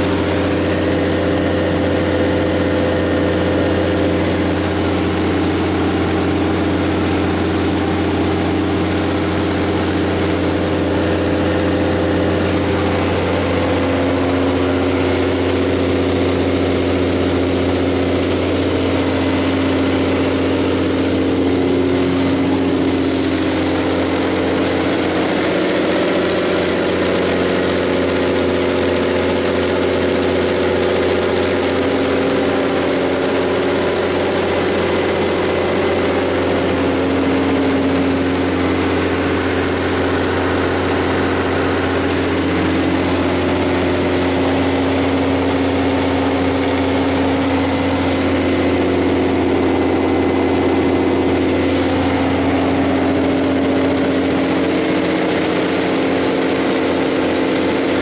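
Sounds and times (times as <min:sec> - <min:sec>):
diesel generator running: 0:00.0 - 0:58.0.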